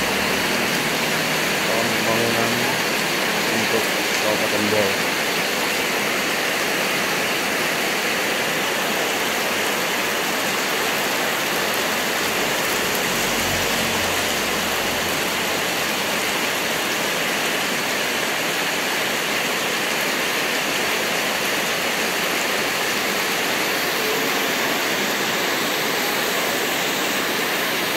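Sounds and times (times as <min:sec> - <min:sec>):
heavy rain on road: 0:00.0 - 0:27.9.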